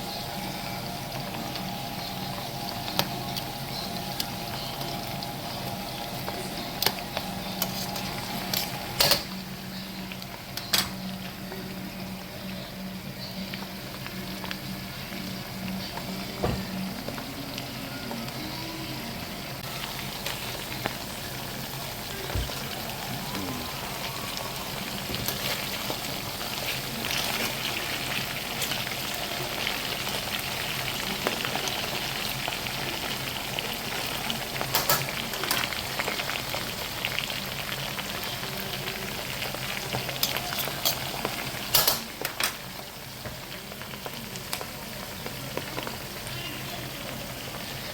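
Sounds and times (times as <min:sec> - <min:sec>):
food deep-frying in oil: 0:00.0 - 0:47.9.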